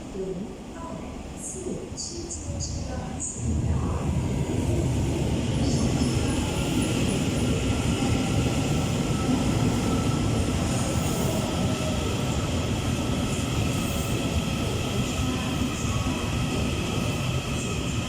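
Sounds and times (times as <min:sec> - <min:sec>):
train wheels rumbling on rails: 0:02.4 - 0:18.0.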